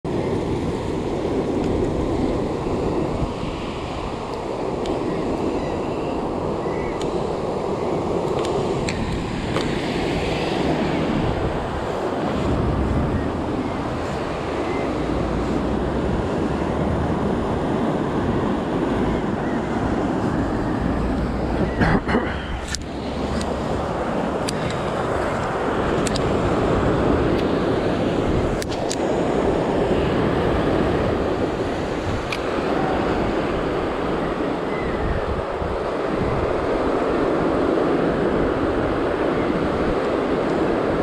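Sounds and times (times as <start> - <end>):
wind buffeting microphone: 0.0 - 41.0
ocean surf on rocks: 0.1 - 41.0.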